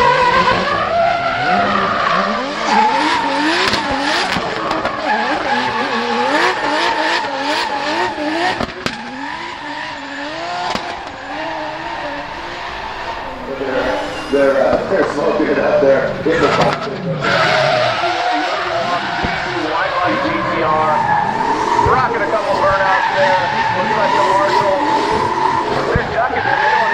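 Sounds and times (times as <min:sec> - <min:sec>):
car engine revving hard: 0:00.0 - 0:26.9
tyres skidding: 0:00.0 - 0:26.9.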